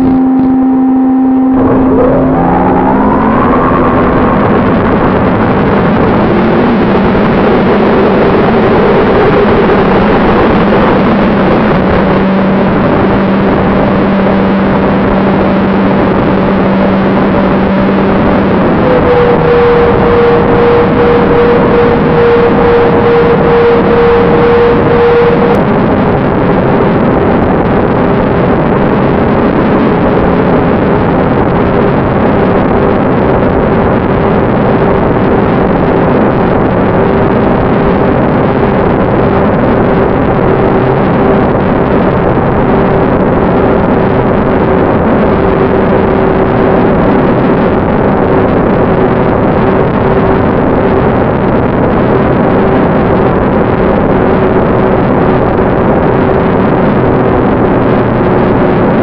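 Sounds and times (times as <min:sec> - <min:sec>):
loud wind rush: 0:00.0 - 0:59.0.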